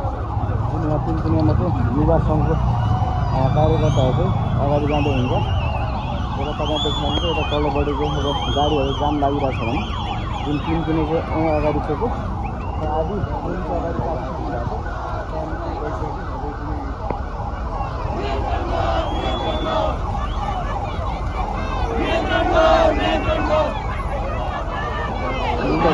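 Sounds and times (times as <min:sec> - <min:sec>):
crowd shouting and chanting: 0:02.2 - 0:25.9.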